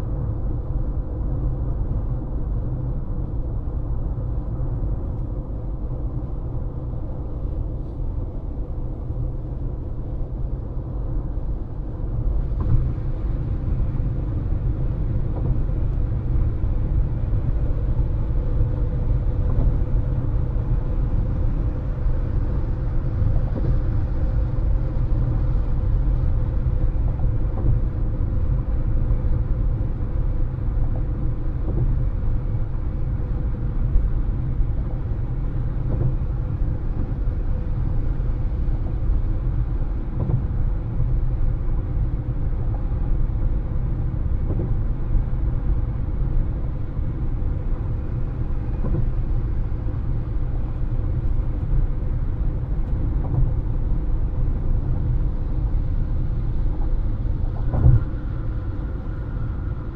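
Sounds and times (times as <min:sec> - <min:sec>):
car tyres and engine rumble: 0:00.0 - 0:59.9.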